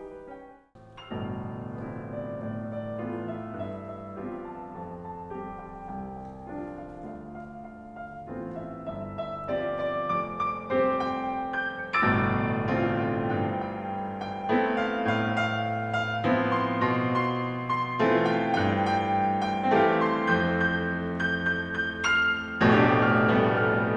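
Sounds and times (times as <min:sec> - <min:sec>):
piano music: 0:00.0 - 0:23.9.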